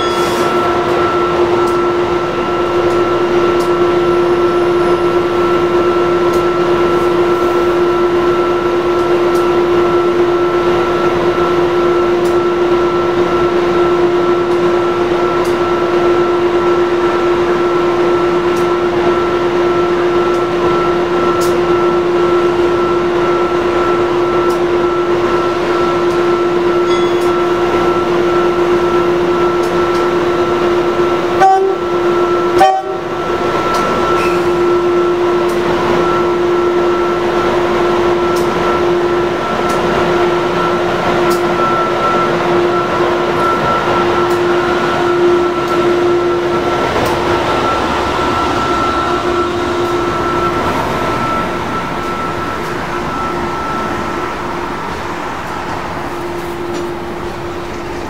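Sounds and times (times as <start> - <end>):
train coaches rumbling past: 0.0 - 58.0
two-note locomotive whine: 0.0 - 58.0.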